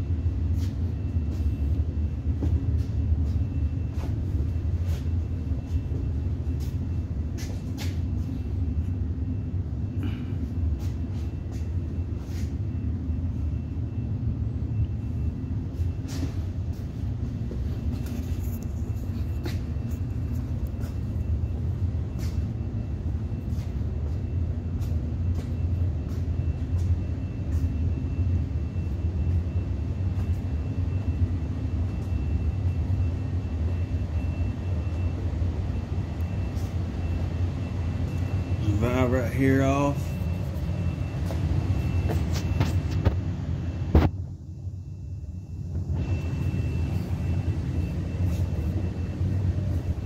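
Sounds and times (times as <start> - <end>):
faint high whine: 0.0 - 50.0
mechanical rumble and hum: 0.0 - 50.0.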